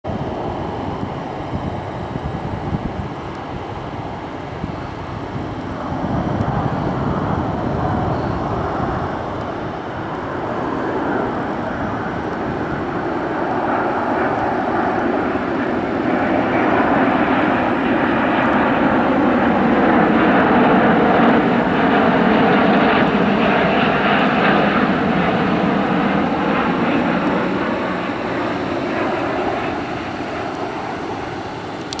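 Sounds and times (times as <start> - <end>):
airliner jet engines landing: 0.0 - 32.0.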